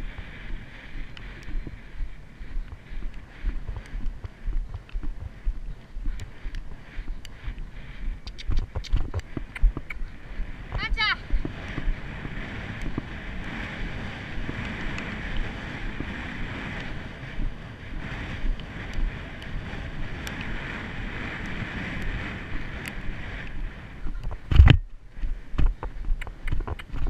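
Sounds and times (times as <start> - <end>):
horse hoofbeats on grass: 0.0 - 27.0
wind rushing over microphone: 0.0 - 27.0.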